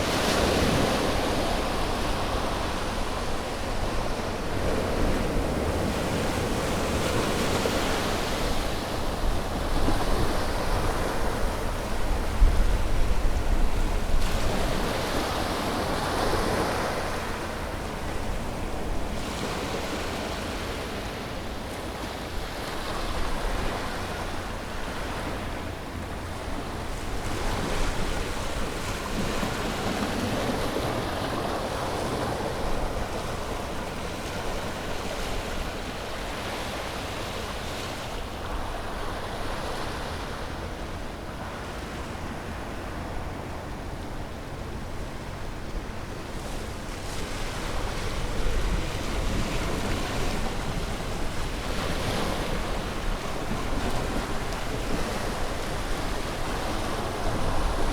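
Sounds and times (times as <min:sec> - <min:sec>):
ocean waves washing on shore: 0:00.0 - 0:57.9.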